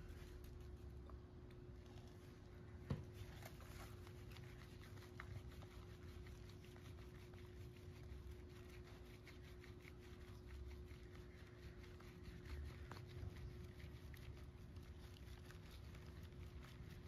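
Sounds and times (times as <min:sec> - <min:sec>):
quiet steady hum: 0:00.0 - 0:17.0
soft wet rubbing and patter: 0:00.0 - 0:17.0.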